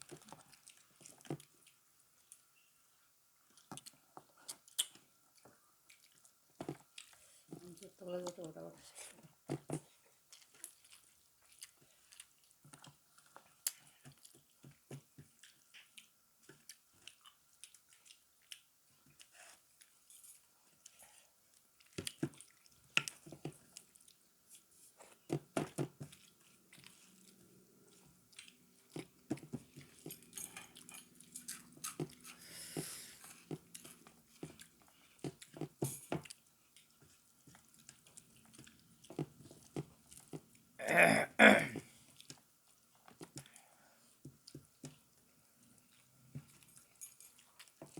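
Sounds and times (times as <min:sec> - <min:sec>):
person chewing food: 0:00.0 - 0:02.7, 0:03.4 - 0:07.9, 0:09.0 - 0:47.9.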